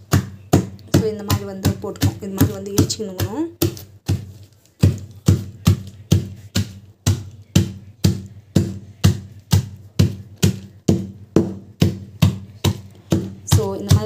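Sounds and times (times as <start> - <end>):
pounder thudding on nuts in bag: 0.0 - 14.0.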